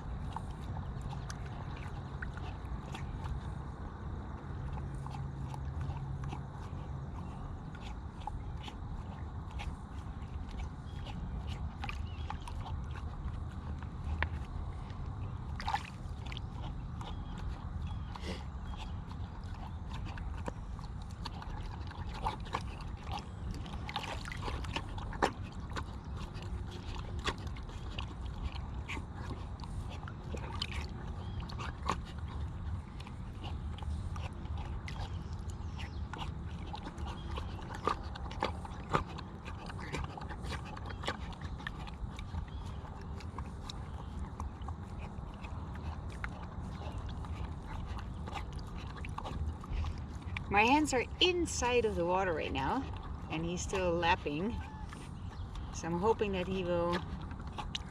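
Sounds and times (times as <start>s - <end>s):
dog lapping water: 0.0s - 57.9s
steady low rumble: 0.0s - 57.9s.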